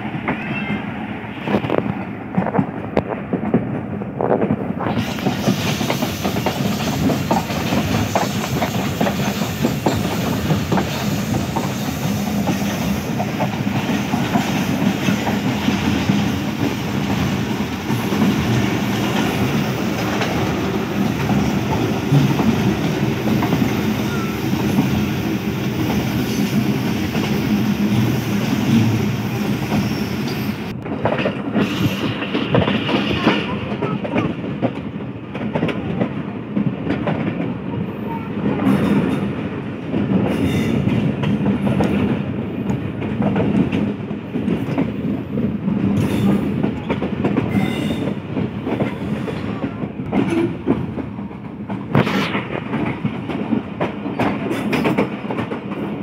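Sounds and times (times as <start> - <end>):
train coach rumble: 0.0 - 56.0.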